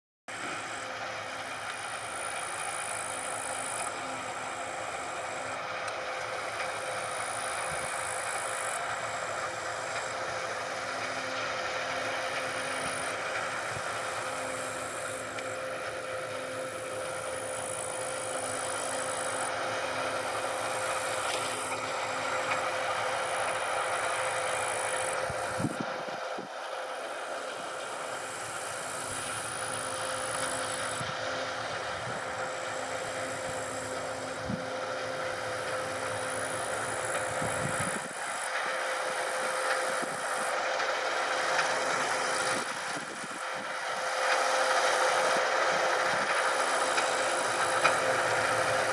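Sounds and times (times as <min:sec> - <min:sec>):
combine harvester humming: 0:00.3 - 0:48.9.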